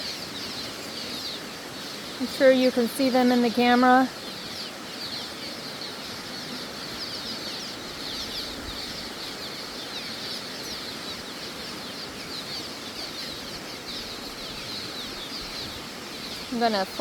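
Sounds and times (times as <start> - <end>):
river rushing: 0.0 - 17.0
small birds chirping: 0.0 - 17.0.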